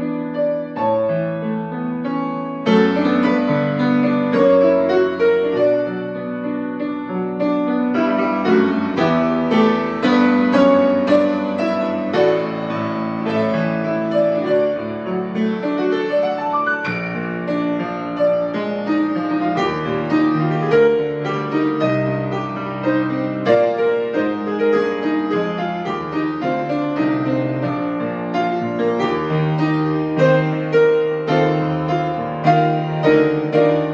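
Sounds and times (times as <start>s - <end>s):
piano playing a hymn: 0.0s - 33.9s.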